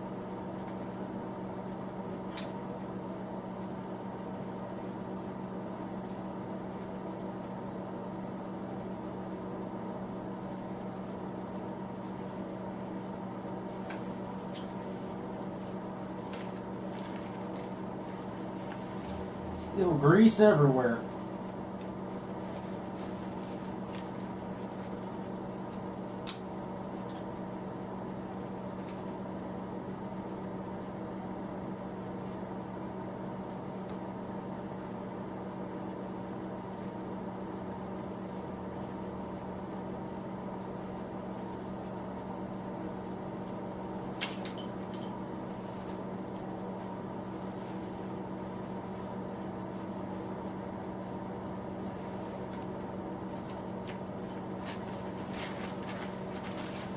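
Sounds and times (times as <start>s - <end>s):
electric heater humming: 0.0s - 56.9s.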